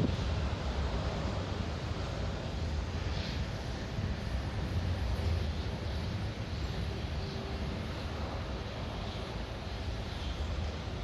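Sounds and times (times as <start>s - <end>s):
jet engines rumbling: 0.0s - 11.0s
wind buffeting microphone: 0.0s - 11.0s.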